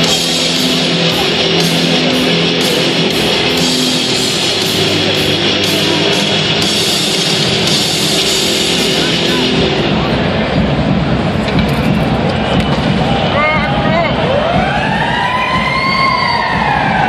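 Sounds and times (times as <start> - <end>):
rock music over sound system: 0.0 - 17.0.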